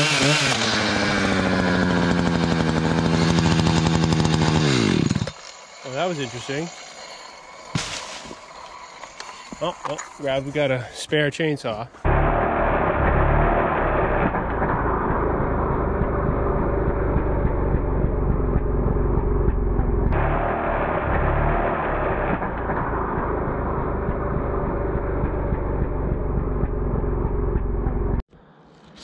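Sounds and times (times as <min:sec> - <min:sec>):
slowed chainsaw rumble: 0:00.0 - 0:10.7, 0:12.1 - 0:28.2.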